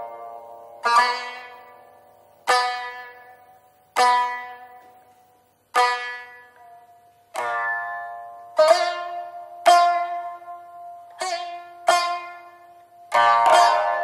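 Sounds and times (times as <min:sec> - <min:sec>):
plucked lute strokes: 0:00.0 - 0:14.0.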